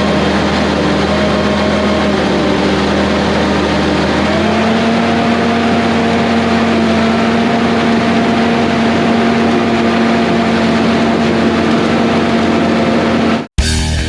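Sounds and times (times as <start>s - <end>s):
diesel engine running steadily: 0.0s - 13.5s.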